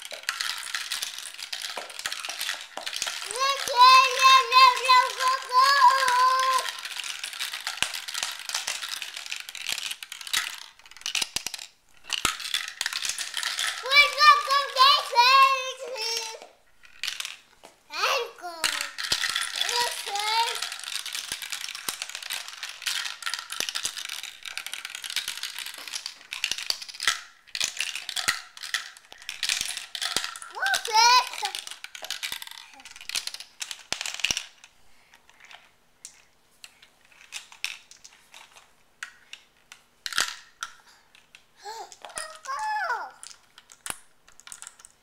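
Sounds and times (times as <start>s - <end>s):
marbles clattering through plastic run: 0.0s - 36.2s, 37.1s - 45.0s.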